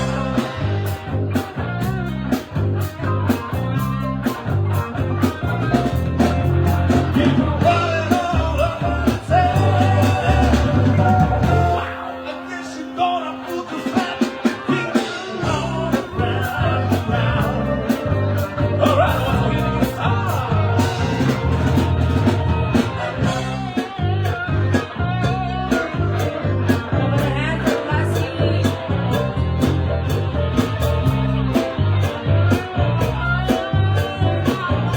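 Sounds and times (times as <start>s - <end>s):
live band playing blues-rock: 0.0s - 34.9s.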